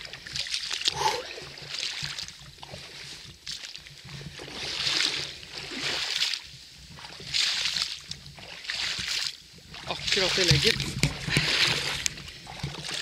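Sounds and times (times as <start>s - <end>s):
wading through marsh water: 0.0s - 13.0s.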